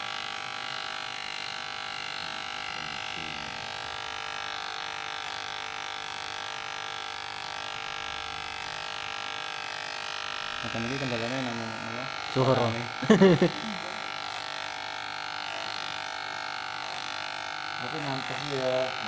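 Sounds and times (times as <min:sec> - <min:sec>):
electric hair clipper buzzing: 0:00.0 - 0:19.0.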